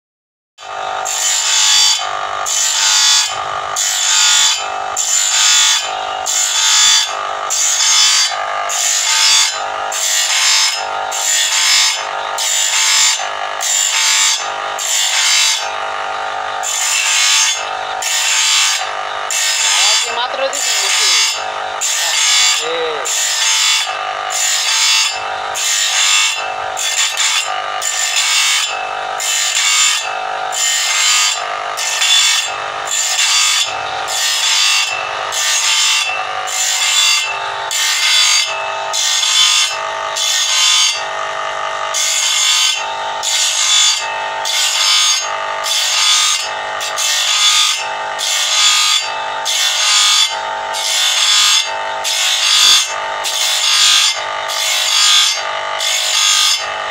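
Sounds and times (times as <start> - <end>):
electric motor whine: 0.6 - 56.9
grinding disc rasping on saw teeth: 0.6 - 56.9.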